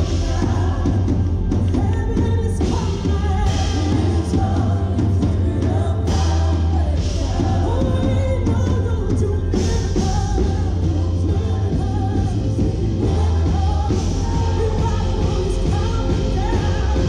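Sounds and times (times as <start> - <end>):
drums: 0.0 - 17.0
electric guitars: 0.0 - 17.0
singers: 0.0 - 17.0.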